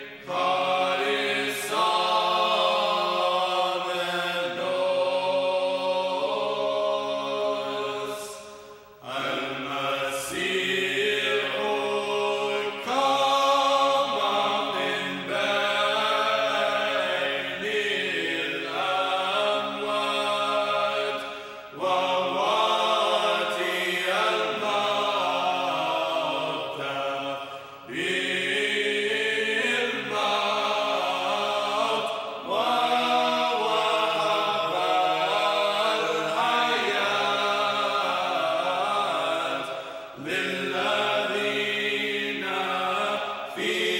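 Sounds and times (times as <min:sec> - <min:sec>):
voices singing chant: 0:00.0 - 0:43.9.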